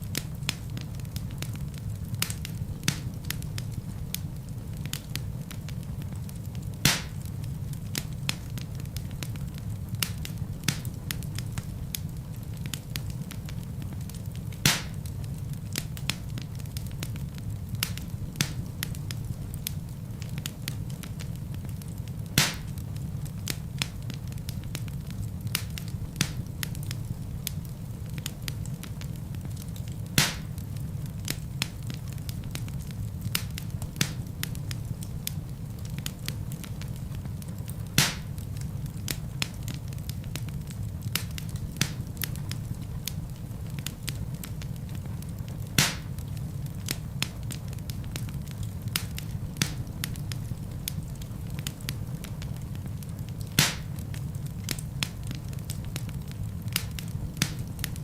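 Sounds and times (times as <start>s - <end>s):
fire low rumble: 0.0s - 58.0s
wood fire crackling: 0.0s - 58.0s.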